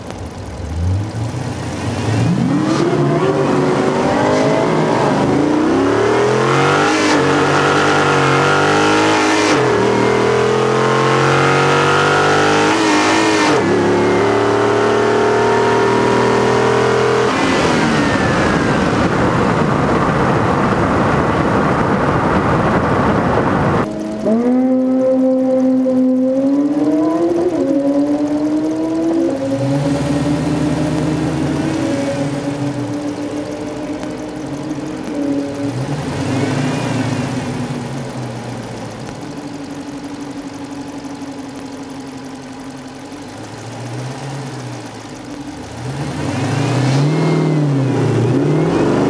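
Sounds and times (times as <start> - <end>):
car engine at full throttle: 0.0 - 49.0
gear upshifts: 0.0 - 49.0.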